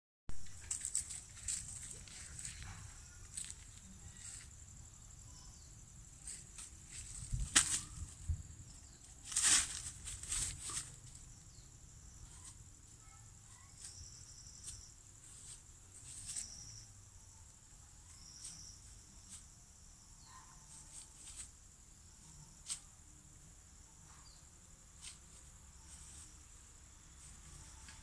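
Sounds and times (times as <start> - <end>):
insects buzzing: 0.4 - 28.0.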